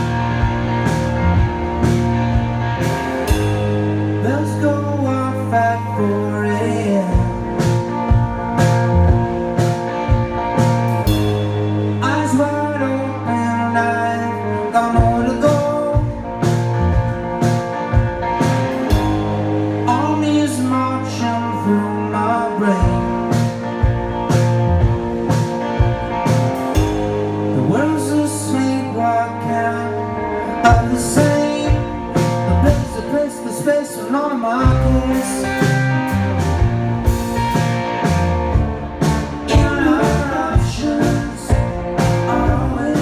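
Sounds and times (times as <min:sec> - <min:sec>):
bass line: 0:00.0 - 0:33.7, 0:34.4 - 0:43.0
electric guitars: 0:00.0 - 0:43.0
rock band playing: 0:00.0 - 0:43.0.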